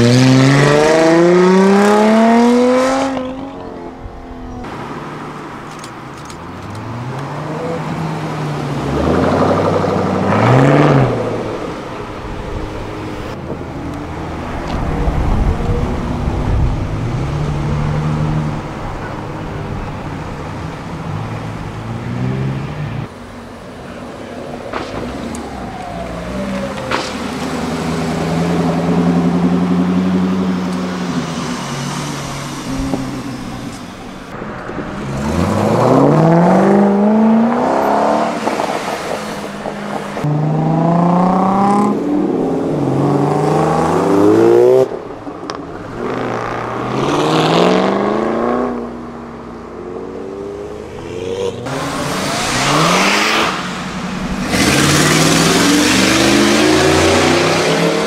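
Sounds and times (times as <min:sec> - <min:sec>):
car engines accelerating: 0:00.0 - 0:58.0.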